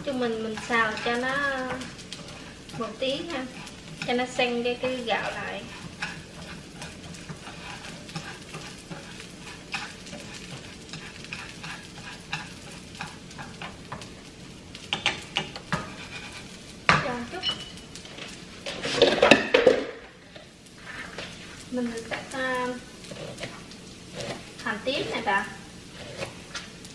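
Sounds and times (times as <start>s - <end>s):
rice sizzling in oil: 0.0s - 26.9s
chopsticks scraping and tapping pan: 0.4s - 26.8s.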